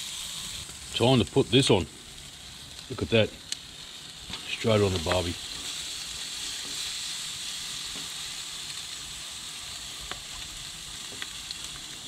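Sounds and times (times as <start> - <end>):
fish sizzling on a grill: 0.0 - 12.0.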